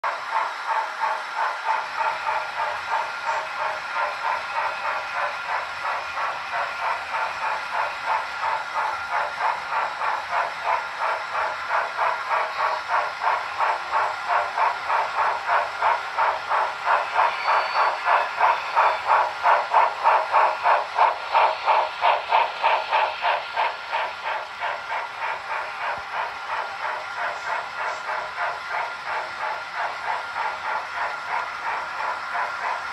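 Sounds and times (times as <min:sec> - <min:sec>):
model steam locomotive chuffing: 0:00.0 - 0:32.9
steam hiss: 0:00.1 - 0:32.9.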